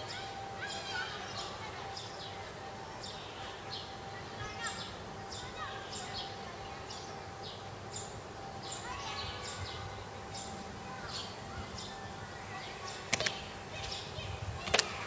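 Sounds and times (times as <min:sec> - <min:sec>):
bird chirping: 0:00.0 - 0:15.0
faint steady hum: 0:00.0 - 0:15.0
outdoor background noise: 0:00.0 - 0:15.0.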